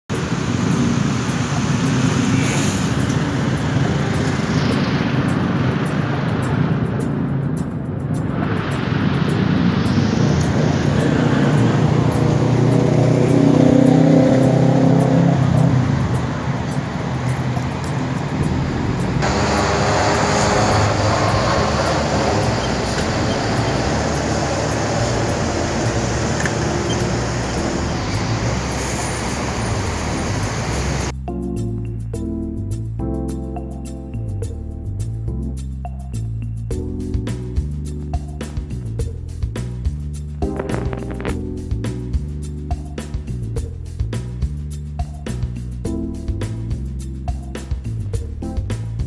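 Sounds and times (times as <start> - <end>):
road traffic rumble: 0.1 - 31.2, 34.2 - 49.0.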